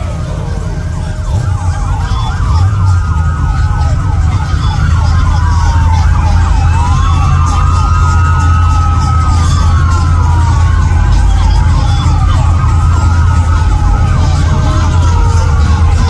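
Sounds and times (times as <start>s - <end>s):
police sirens yelping and wailing: 0.0s - 16.0s.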